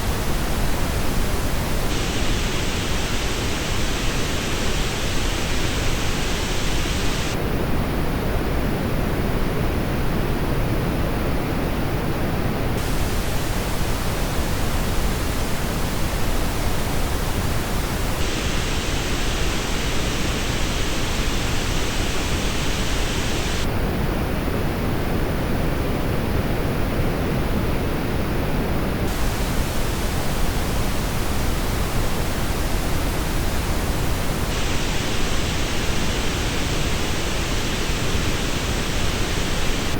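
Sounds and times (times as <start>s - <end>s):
pink noise test signal: 0.0s - 39.9s.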